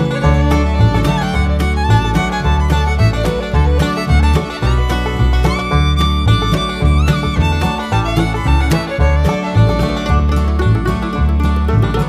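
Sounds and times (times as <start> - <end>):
fiddle tune with sliding notes: 0.0 - 12.0
steady bass beat: 0.0 - 12.0.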